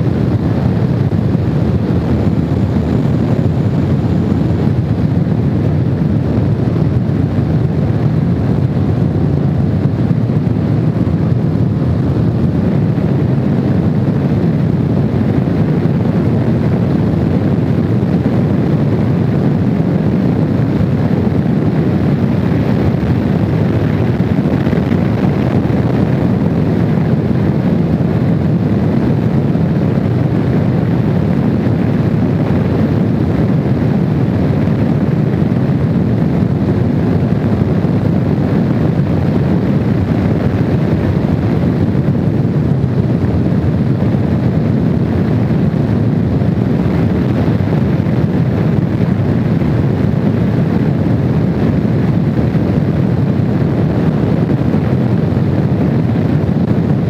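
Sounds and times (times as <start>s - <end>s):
wind rush over microphone: 0.0s - 57.0s.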